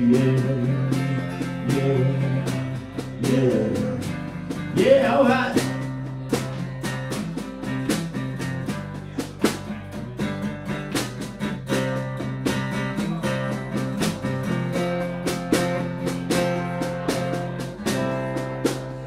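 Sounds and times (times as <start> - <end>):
guitar notes: 0.0 - 19.0
steady drum beat: 0.0 - 19.0.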